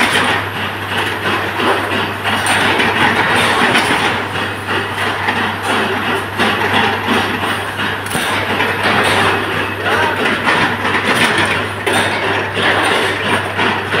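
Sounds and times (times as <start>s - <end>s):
loud uneven rattling: 0.0s - 14.0s.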